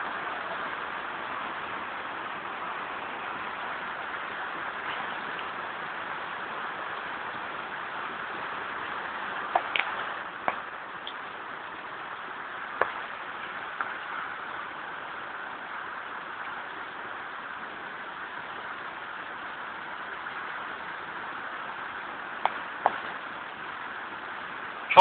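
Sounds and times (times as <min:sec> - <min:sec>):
flood water rushing: 0:00.0 - 0:25.0.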